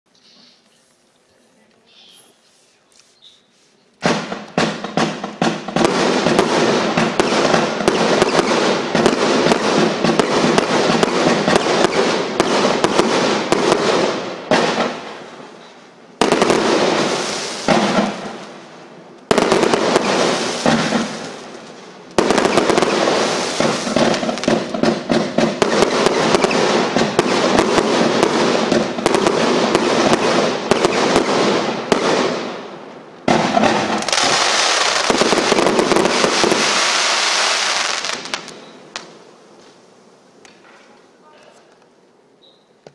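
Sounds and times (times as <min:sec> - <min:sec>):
firework barrage crackling: 0:04.0 - 0:41.5.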